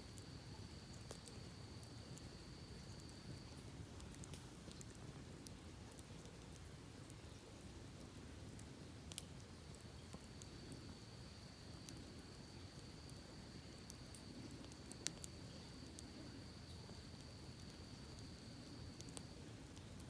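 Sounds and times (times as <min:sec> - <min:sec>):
campfire crackling and popping: 0:00.1 - 0:20.0.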